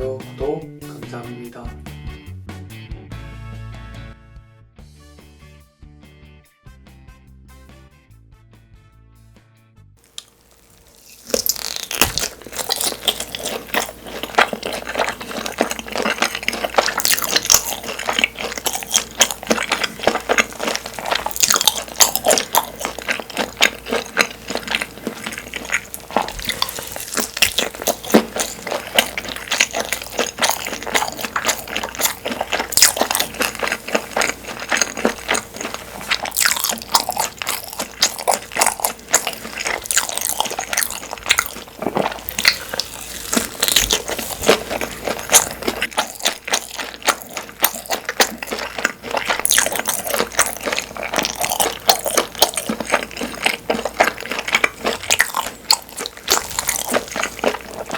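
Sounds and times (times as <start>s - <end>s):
close chewing and mouth clicks: 10.1s - 57.9s.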